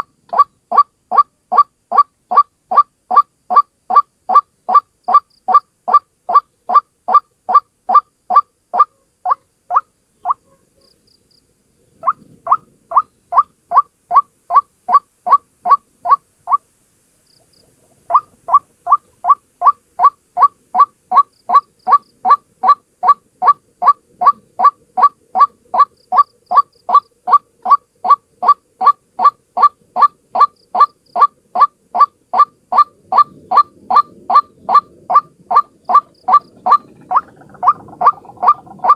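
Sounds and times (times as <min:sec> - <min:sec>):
waterhen calling: 0:00.0 - 0:10.6, 0:12.0 - 0:16.7, 0:17.4 - 0:38.9.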